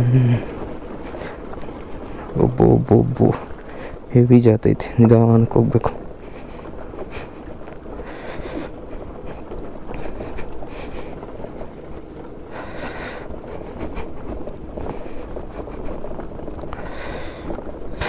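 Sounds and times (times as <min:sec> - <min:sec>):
scooter tyres rolling over gravel: 0:00.0 - 0:18.0
wind buffeting microphone: 0:00.0 - 0:18.0.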